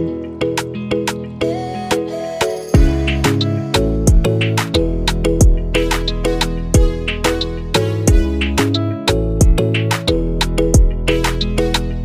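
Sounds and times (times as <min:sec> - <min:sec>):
plucked guitar instrumental with beat: 0:00.0 - 0:12.0.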